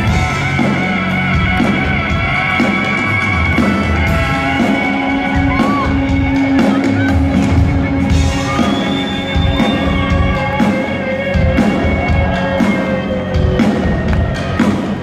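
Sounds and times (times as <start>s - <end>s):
bass line: 0.0s - 15.0s
drums: 0.0s - 15.0s
guitars: 0.0s - 15.0s.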